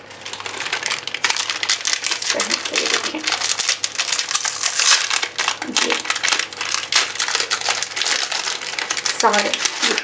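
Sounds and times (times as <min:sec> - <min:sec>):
plastic wrappers crinkling: 0:00.0 - 0:10.0.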